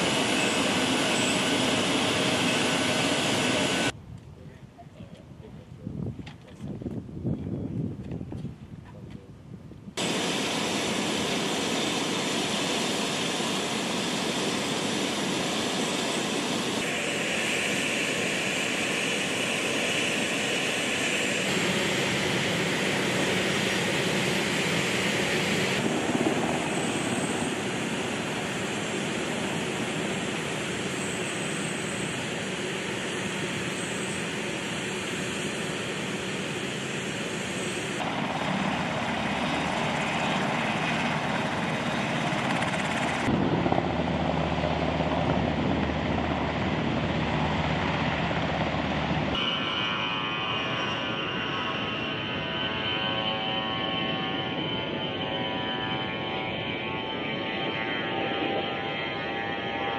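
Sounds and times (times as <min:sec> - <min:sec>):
helicopter turbines and rotor: 0:00.0 - 0:04.0, 0:09.9 - 0:59.9
jet turbofan whine: 0:00.0 - 0:04.0, 0:09.8 - 0:59.9.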